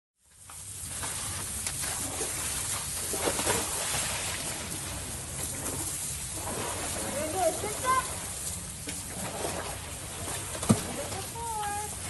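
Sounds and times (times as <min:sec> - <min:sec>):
hose water spraying: 0:00.3 - 0:12.0
mud splashing and slapping: 0:00.8 - 0:11.8.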